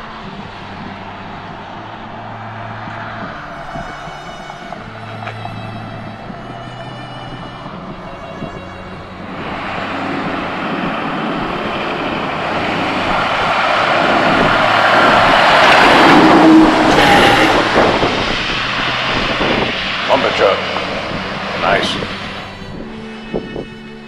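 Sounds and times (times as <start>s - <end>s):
motor vehicle passing: 0.0s - 24.0s.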